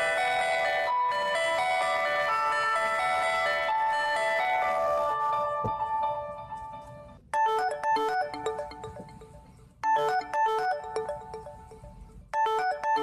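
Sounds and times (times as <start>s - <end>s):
phone ringtone chiming melody: 0.0s - 6.7s, 7.3s - 13.0s.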